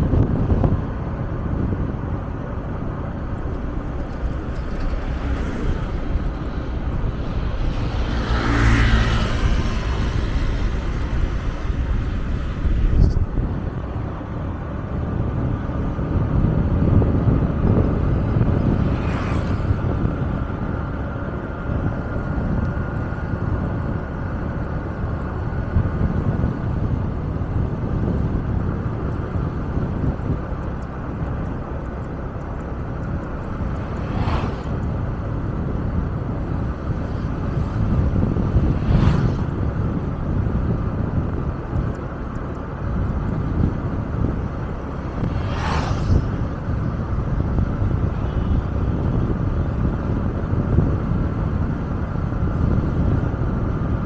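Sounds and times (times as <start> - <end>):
road noise from moving vehicle: 0.0 - 54.0
vehicles passing: 0.0 - 54.0
wind rumble on microphone: 0.0 - 54.0.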